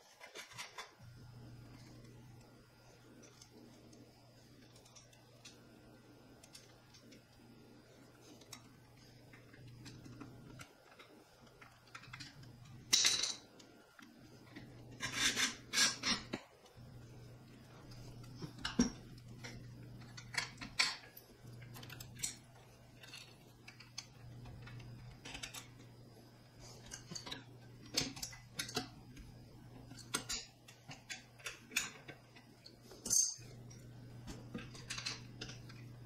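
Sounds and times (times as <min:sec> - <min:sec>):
parts clicking and rattling: 0:00.0 - 0:16.8, 0:17.5 - 0:26.0, 0:26.6 - 0:36.0
low steady hum: 0:00.0 - 0:36.0.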